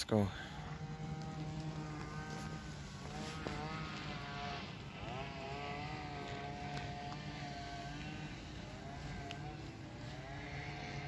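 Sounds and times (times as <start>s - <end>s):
engine running: 0.3s - 11.0s.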